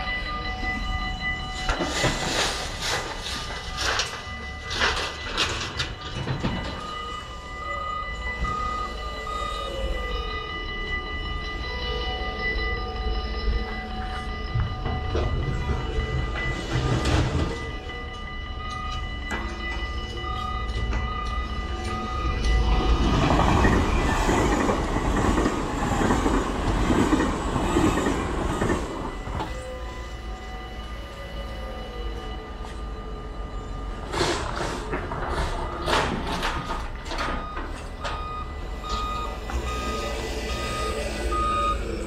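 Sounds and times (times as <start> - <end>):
electric train passing: 0.0 - 42.0
level crossing warning bells: 0.0 - 42.0.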